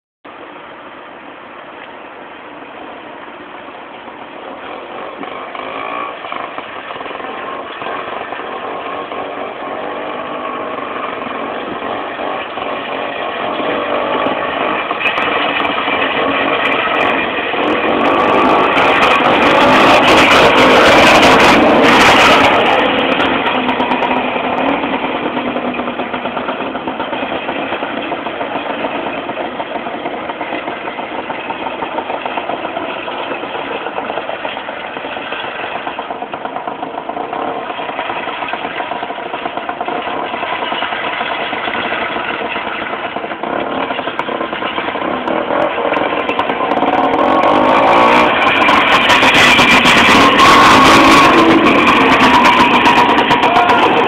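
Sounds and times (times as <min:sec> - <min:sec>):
snowmobile two-stroke engine running: 0:00.3 - 0:54.0.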